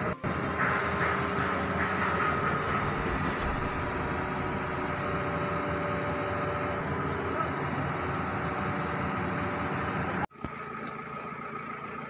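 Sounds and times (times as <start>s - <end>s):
high whine: 0.0s - 10.2s
excavator diesel engine running: 0.0s - 12.0s.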